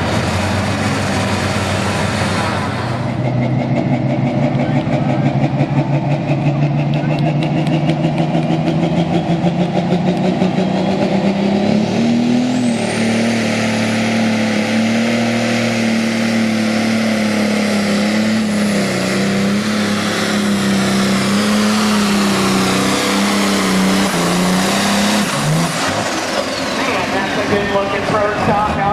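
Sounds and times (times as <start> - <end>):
diesel engine revving under load: 0.0 - 28.9.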